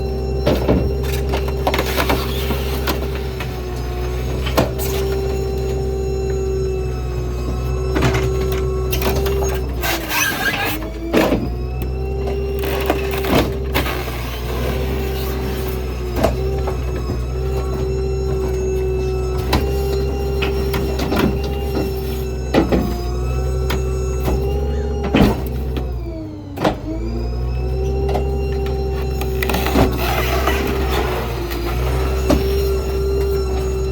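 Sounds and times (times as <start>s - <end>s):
garbage truck hydraulic whine: 0.0s - 33.9s
truck engine hum: 0.0s - 33.9s.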